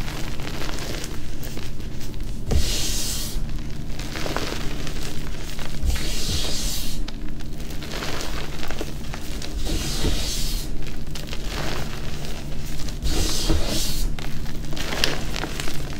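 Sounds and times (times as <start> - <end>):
hands squishing chalk powder: 0.0 - 15.9.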